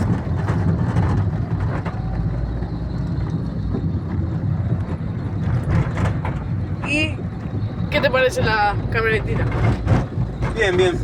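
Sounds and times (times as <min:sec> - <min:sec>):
knocks and rattles: 0:00.0 - 0:08.2, 0:08.8 - 0:11.0
van engine and road rumble: 0:00.0 - 0:11.0.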